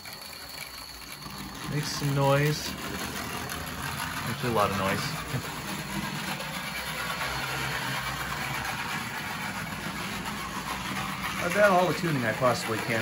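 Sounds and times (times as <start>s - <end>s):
model train motor running: 0.0s - 13.0s.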